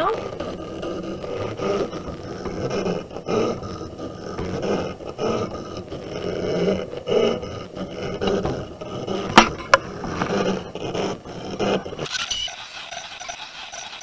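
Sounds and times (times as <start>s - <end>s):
cutting machine motors whirring: 0.0s - 14.0s.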